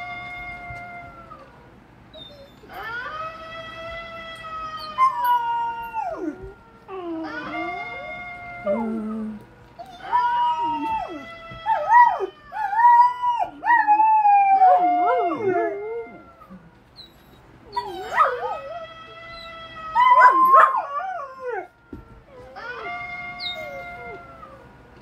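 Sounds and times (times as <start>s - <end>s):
dog howling: 2.2s - 16.7s, 17.7s - 24.8s.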